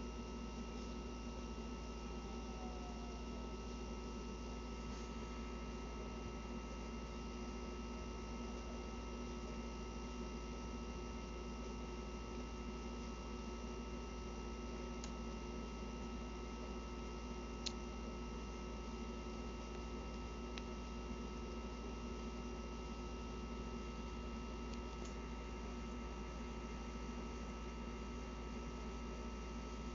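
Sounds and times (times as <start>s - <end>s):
low electrical hum with hiss: 0.0s - 29.9s.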